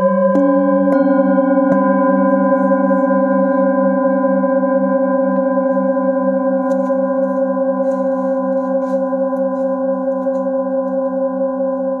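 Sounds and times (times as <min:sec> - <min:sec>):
singing bowl ringing: 0:00.0 - 0:12.0.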